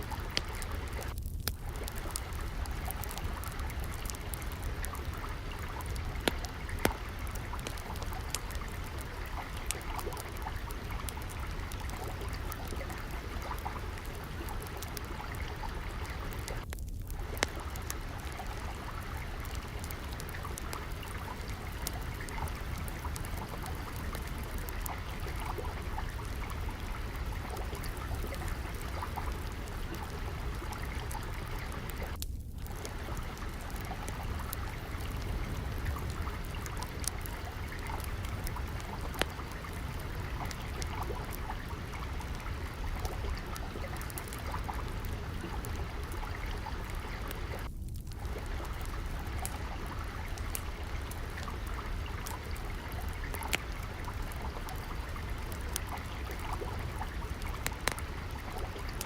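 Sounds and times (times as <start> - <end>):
water trickling: 0.0 - 59.0
wood fire crackling and popping: 0.0 - 59.0.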